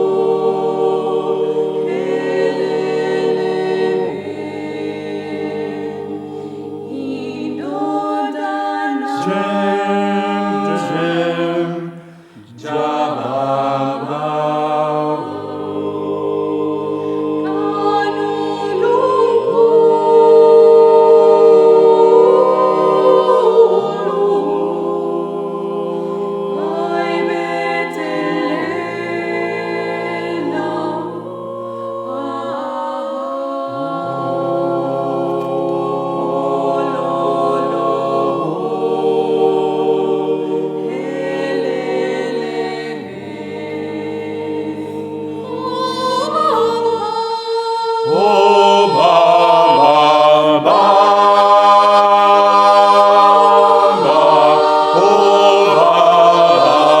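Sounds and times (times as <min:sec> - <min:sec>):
vocal ensemble singing a cappella: 0:00.0 - 0:57.0.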